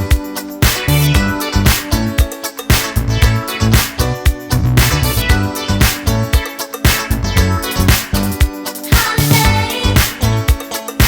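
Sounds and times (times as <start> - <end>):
upbeat funk dance music: 0.0 - 11.0.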